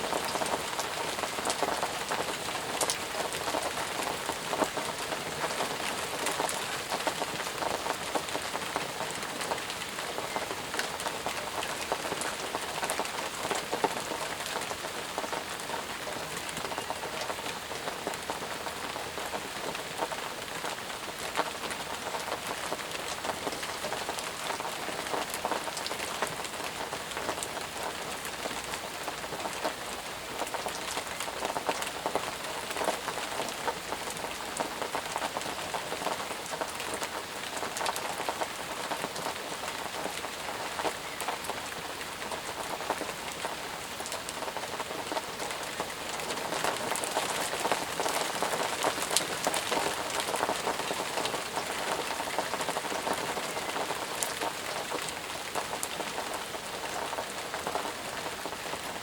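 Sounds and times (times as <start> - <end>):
heavy rain falling: 0.0 - 59.0
raindrops pattering on surfaces: 0.0 - 59.0.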